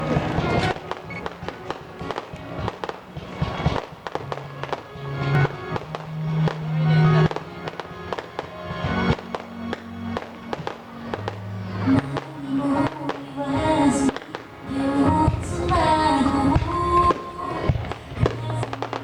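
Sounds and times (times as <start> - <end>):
fireworks bursts and crackles: 0.0 - 19.0
music over loudspeakers: 0.0 - 19.0.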